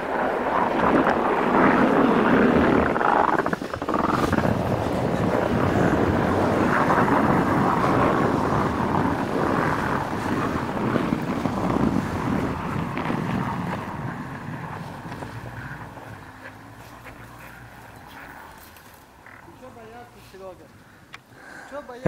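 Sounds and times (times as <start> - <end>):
wheels spinning through snow: 0.0 - 20.6.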